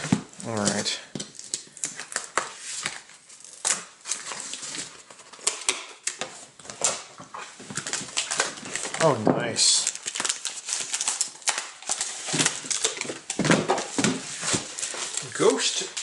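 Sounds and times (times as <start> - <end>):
plastic and card rustling: 0.0 - 16.0.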